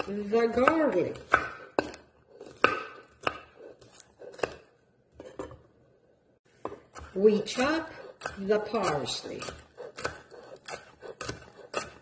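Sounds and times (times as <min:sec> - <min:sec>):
knife chopping on wooden board: 0:00.0 - 0:05.6, 0:06.6 - 0:12.0.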